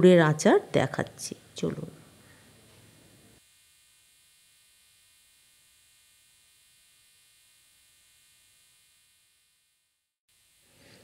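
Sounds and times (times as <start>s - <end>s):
faint recording hum and hiss: 0.0s - 11.0s.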